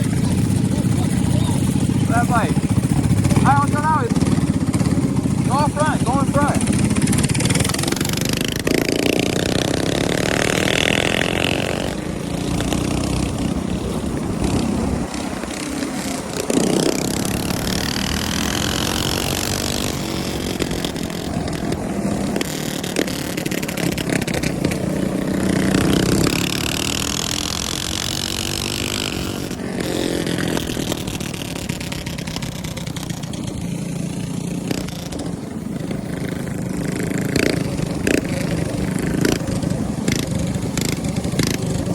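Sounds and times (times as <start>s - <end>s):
minibike engines revving: 0.0s - 41.9s.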